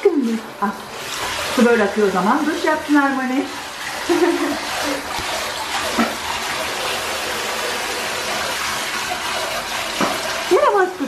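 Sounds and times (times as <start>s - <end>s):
shower spraying water into basin: 0.0s - 11.0s.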